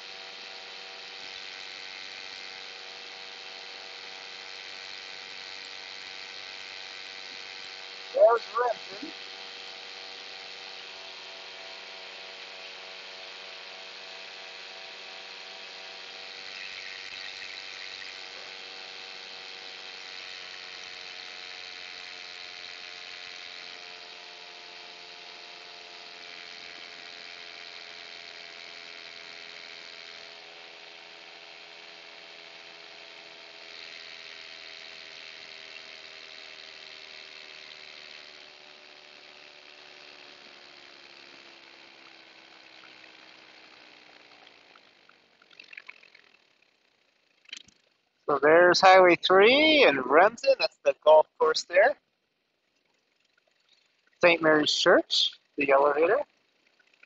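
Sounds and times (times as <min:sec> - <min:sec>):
paramotor engine droning: 0:00.0 - 0:52.0, 0:52.6 - 0:57.0.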